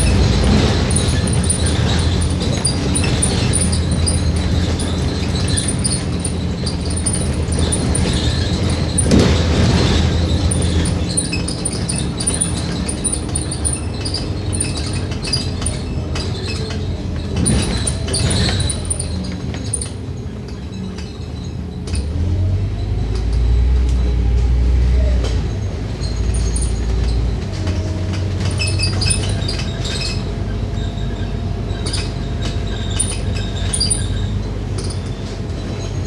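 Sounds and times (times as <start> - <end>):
bus body rattling: 0.0 - 36.0
bus diesel engine running: 0.0 - 36.0
bus jolt: 0.0 - 36.0.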